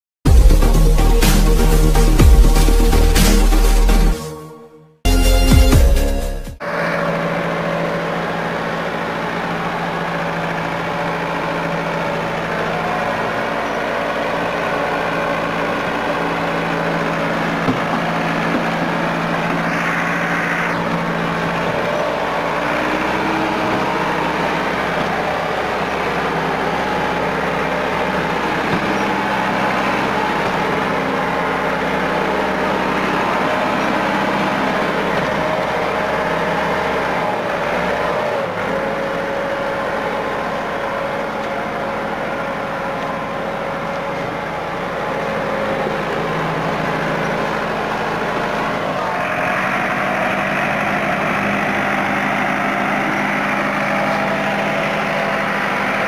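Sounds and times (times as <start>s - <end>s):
tractor diesel engine under load: 0.2s - 4.4s, 5.0s - 56.0s.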